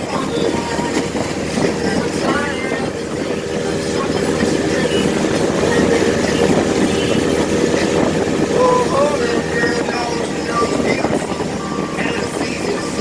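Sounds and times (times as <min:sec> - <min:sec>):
motorboat engine running: 0:00.0 - 0:13.0
water noise: 0:00.0 - 0:13.0
wind noise: 0:00.0 - 0:13.0.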